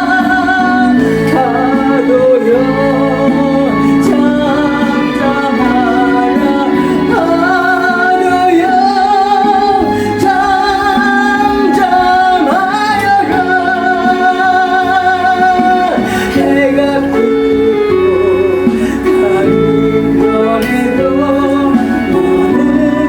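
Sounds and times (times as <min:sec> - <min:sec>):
instrumental accompaniment: 0:00.0 - 0:23.0
person singing with vibrato: 0:00.0 - 0:23.0.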